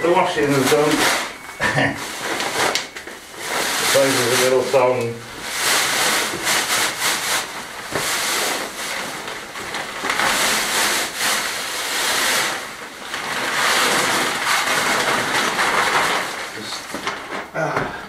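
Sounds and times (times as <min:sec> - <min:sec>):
sand and gravel pouring: 0:00.0 - 0:17.5.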